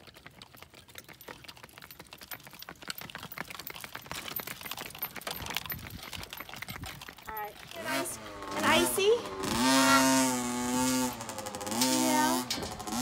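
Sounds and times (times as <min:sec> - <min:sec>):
hooves clip-clopping on asphalt: 0:00.0 - 0:13.0.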